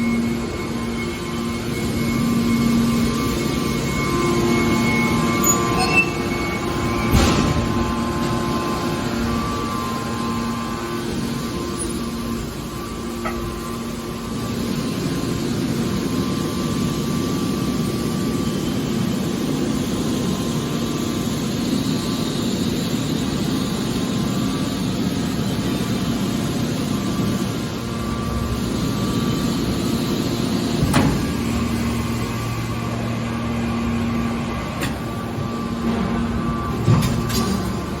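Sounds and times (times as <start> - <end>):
hydraulic baler humming: 0.0 - 38.0.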